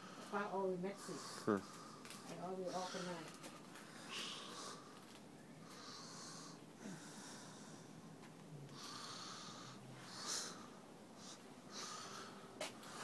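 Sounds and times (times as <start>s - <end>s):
slow soft breathing: 0.0s - 13.0s.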